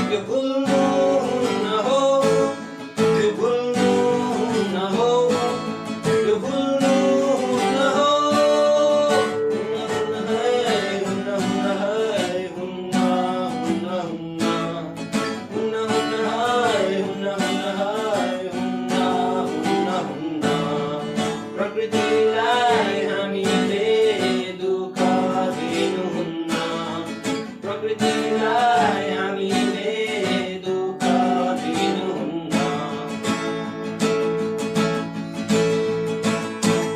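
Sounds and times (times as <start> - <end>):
strummed acoustic guitar: 0.0 - 36.9.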